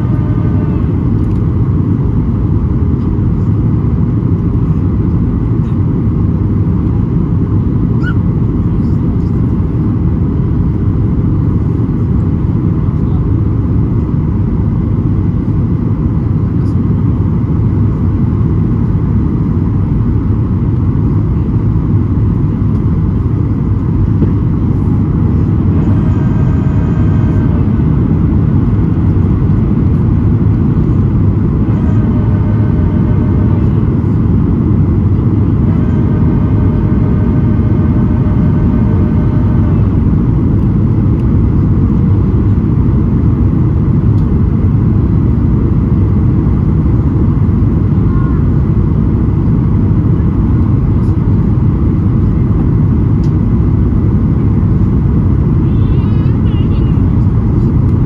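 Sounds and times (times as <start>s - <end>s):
airplane cabin roar: 0.0s - 58.0s
high whine of steady tones: 0.0s - 58.0s.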